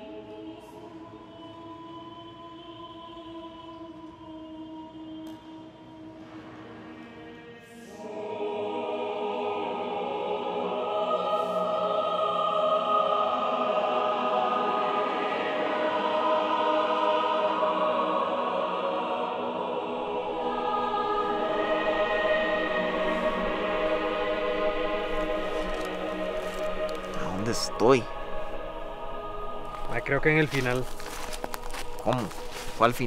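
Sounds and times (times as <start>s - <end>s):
choir-like voices holding chords: 0.0s - 33.0s.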